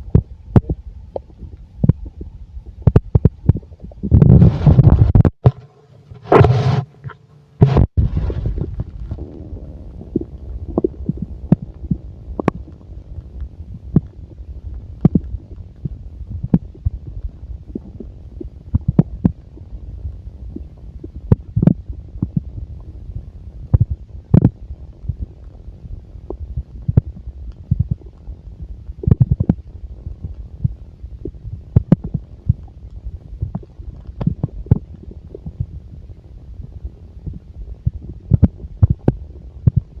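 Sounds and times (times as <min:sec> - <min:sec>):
stomach gurgling: 0:00.0 - 0:40.0.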